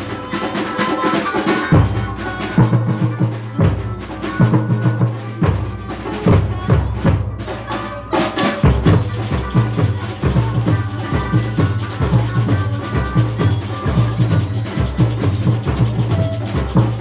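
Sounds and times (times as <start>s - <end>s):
snare drum and hand percussion: 0.0s - 17.0s.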